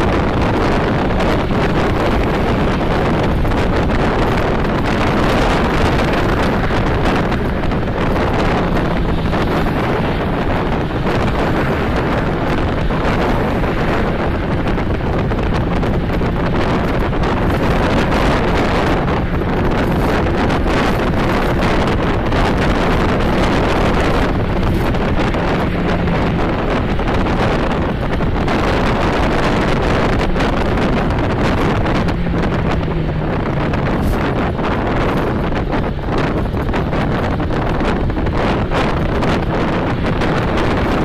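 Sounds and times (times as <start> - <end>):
road and tyre noise: 0.0 - 41.0
wind buffeting microphone: 0.0 - 41.0.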